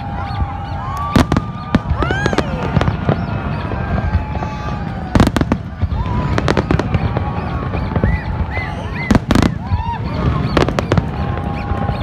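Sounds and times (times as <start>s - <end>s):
fireworks bursting with bangs: 0.0s - 12.0s
fireworks crackle: 0.0s - 12.0s.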